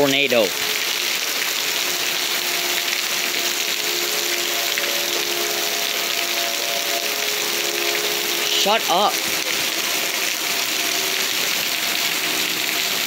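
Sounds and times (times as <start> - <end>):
distant warning sirens: 0.0 - 13.0
heavy rain pouring: 0.0 - 13.0.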